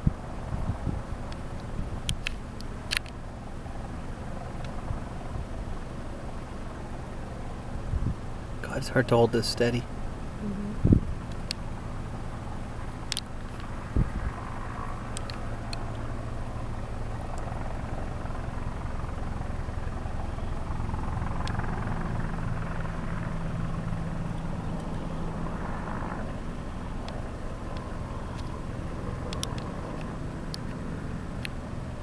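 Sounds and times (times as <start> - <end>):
distant helicopter drone: 0.0 - 32.0.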